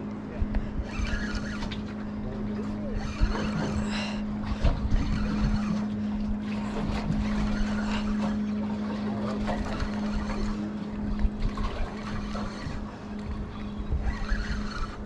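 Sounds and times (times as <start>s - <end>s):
boat motor humming: 0.0s - 15.0s
gusting wind: 0.0s - 15.0s
water noise: 0.0s - 15.0s.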